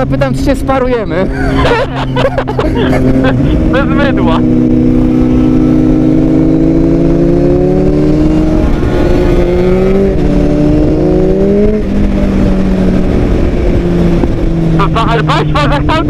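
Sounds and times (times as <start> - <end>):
motorcycle engine accelerating: 0.0 - 16.0
wind rumble: 0.0 - 16.0.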